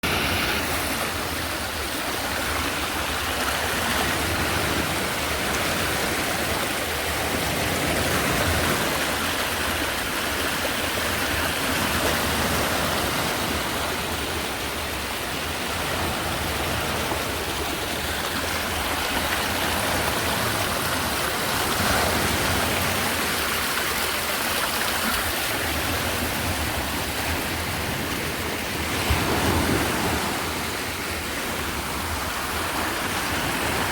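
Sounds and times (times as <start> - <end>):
sea waves washing ashore: 0.0 - 33.9.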